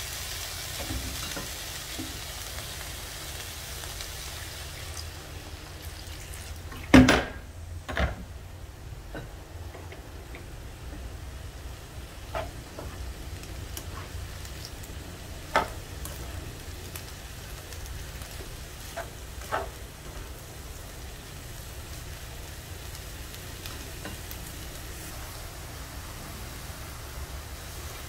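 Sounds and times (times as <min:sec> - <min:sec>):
vegetables sizzling in a wok: 0:00.0 - 0:28.0.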